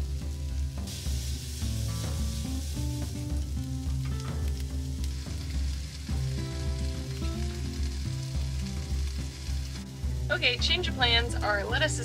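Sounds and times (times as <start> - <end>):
background music: 0.0 - 12.0
vegetables sizzling in a frying pan: 0.0 - 12.0.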